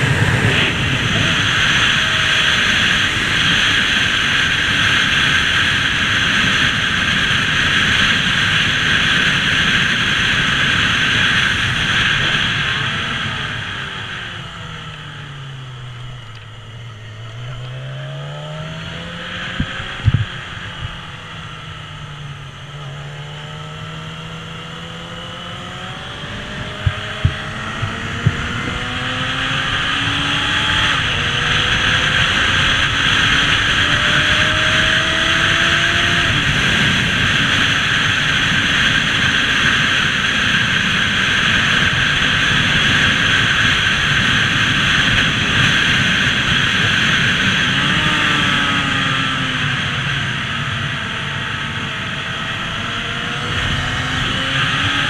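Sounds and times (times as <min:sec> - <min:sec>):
wind noise on microphone: 0:00.0 - 0:16.3, 0:17.4 - 0:22.8, 0:23.6 - 0:55.0
motorcycle engine accelerating: 0:00.0 - 0:55.0.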